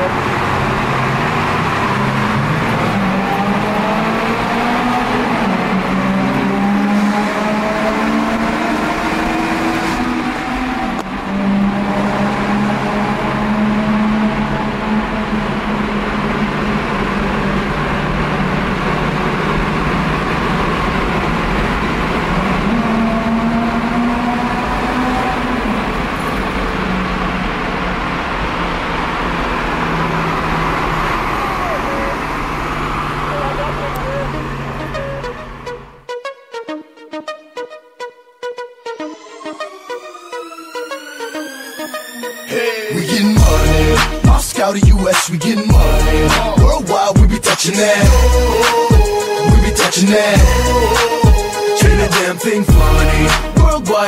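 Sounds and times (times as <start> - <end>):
car engine accelerating: 0.0 - 36.1, 38.9 - 54.0.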